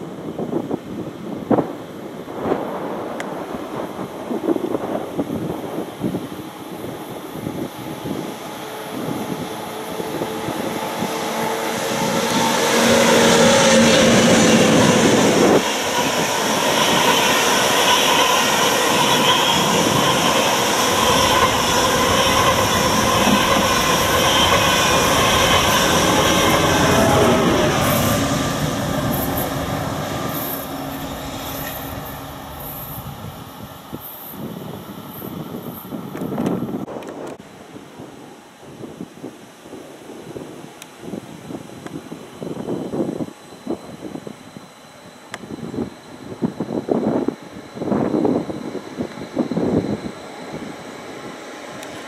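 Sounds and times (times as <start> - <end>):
electric train whine: 0.0 - 37.7, 39.7 - 52.0
high-speed train passing: 0.0 - 38.3, 42.4 - 52.0.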